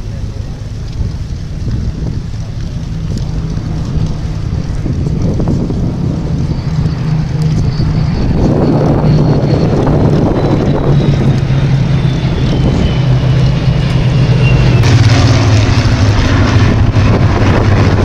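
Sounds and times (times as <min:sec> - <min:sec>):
piston aircraft engines droning: 0:00.0 - 0:18.0.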